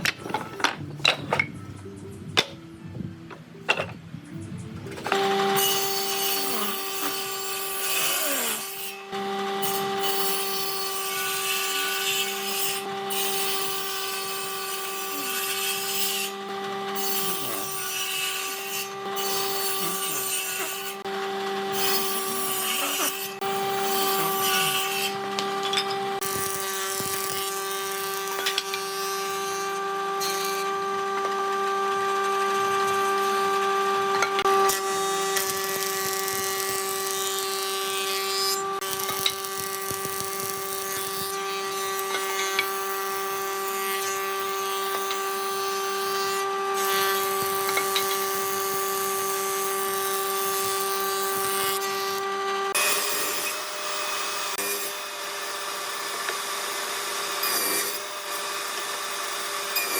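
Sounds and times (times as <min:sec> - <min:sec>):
power tool whining: 0:05.0 - 0:59.9.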